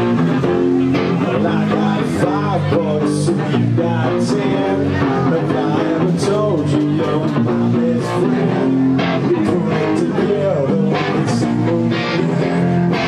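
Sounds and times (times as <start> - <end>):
electric bass: 0.0 - 13.0
electric guitars: 0.0 - 13.0
person singing: 0.0 - 13.0.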